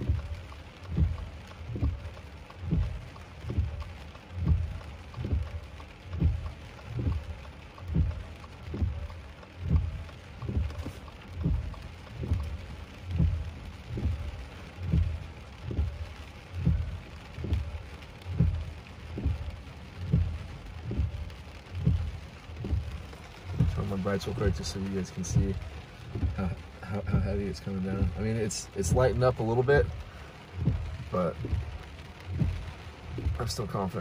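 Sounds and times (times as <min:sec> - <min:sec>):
heavy rain on a car: 0:00.0 - 0:34.0
windshield wipers thumping: 0:00.0 - 0:34.0.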